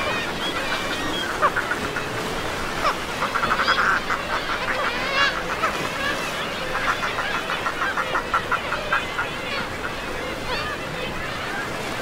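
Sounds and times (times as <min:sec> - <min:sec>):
seabirds calling: 0:00.0 - 0:12.0.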